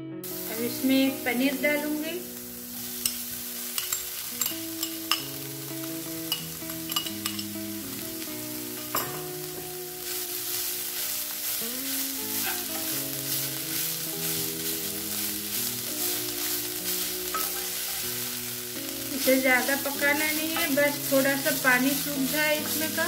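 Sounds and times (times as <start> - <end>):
food sizzling in hot oil: 0.2 - 23.0
spatula tapping pan: 2.7 - 23.0.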